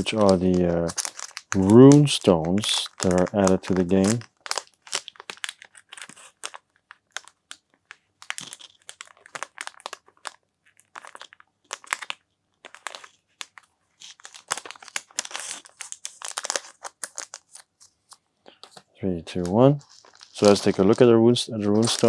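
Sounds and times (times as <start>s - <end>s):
packaging crinkling and tearing: 0.0s - 22.0s.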